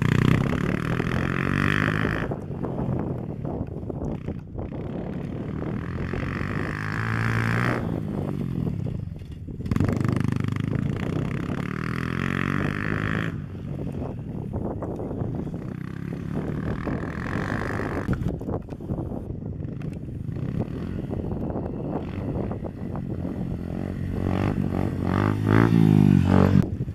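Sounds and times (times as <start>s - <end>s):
pit bike engine revving: 0.0s - 3.6s, 4.2s - 14.2s, 15.2s - 18.5s, 19.6s - 26.9s.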